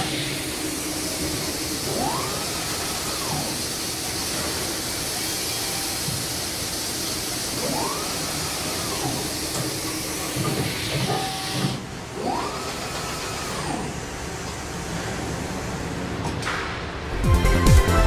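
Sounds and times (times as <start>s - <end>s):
machine motor whine: 0.0s - 6.4s, 7.5s - 15.8s.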